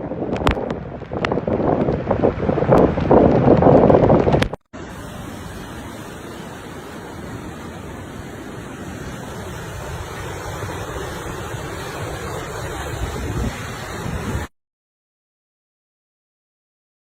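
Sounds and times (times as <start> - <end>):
storm wind: 0.0 - 14.5
surging water: 0.0 - 14.5.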